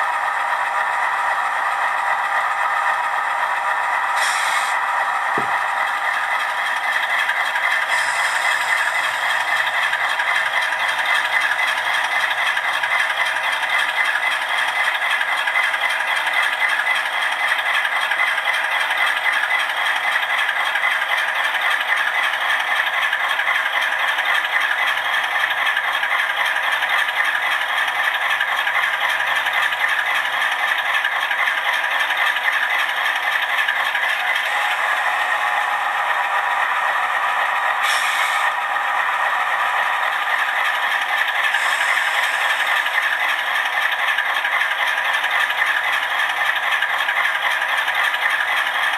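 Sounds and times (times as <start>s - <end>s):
model locomotive engine sound: 0.0s - 48.9s.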